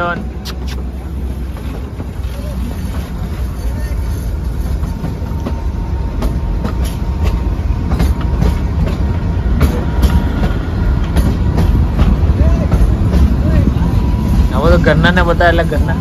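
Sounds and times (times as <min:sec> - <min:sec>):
train rumbling on track: 0:00.0 - 0:16.0
wheels clacking over rail joints: 0:01.1 - 0:14.0.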